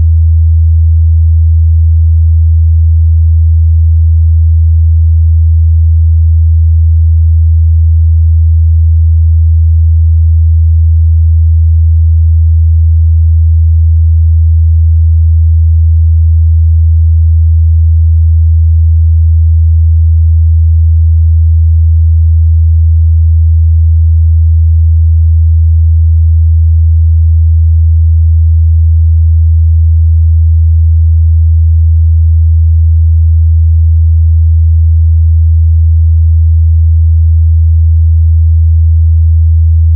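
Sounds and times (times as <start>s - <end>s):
low sine test tone: 0.0s - 39.9s.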